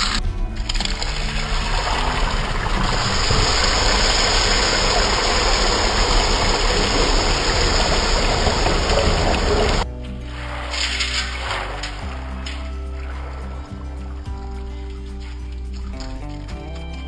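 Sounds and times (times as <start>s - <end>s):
water pouring into a steel bowl: 0.0s - 16.5s.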